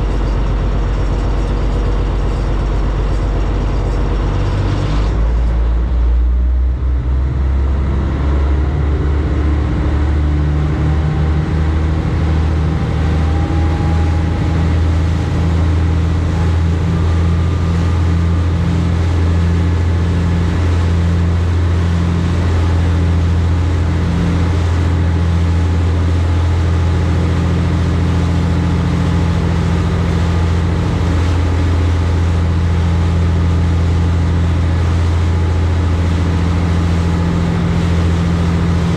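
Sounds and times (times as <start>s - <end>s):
boat engine humming: 0.0s - 38.9s
water noise: 0.0s - 38.9s.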